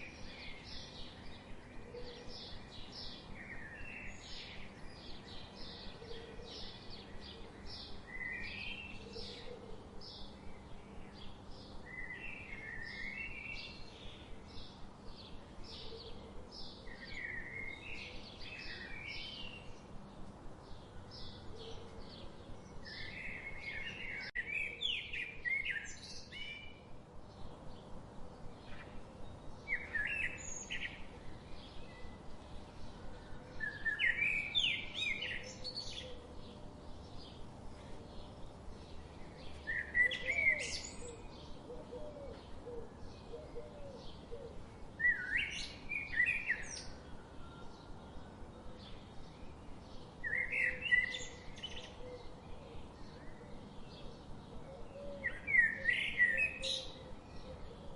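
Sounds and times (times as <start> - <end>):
faint background hiss: 0.0 - 57.9
songbirds chirping and singing: 0.0 - 57.9.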